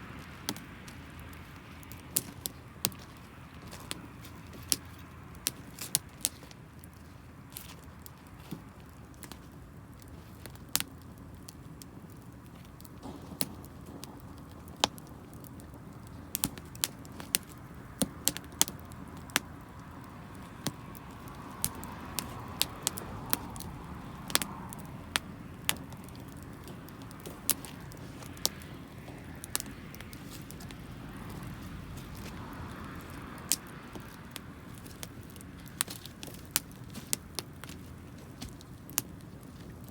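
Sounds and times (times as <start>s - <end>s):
low steady rumble: 0.0s - 39.9s
wood fire crackling and popping: 0.0s - 39.9s.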